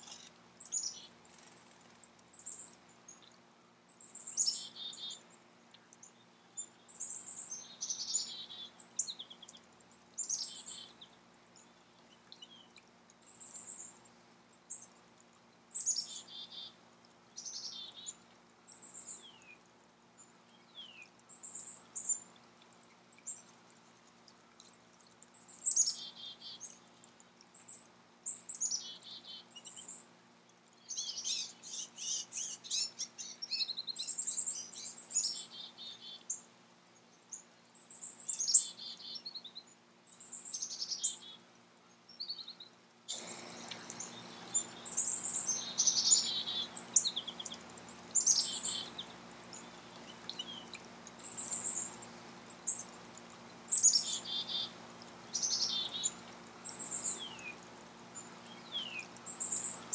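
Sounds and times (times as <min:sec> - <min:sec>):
faint steady hiss: 0:00.0 - 0:59.9
songbirds chirping: 0:00.0 - 0:59.9.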